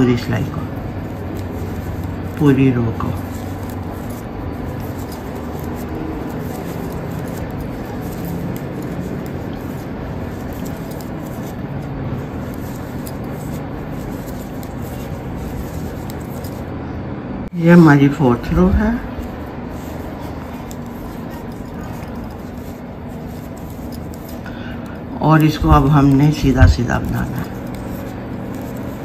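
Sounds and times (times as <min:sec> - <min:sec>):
background rumble and hiss: 0:00.0 - 0:29.0.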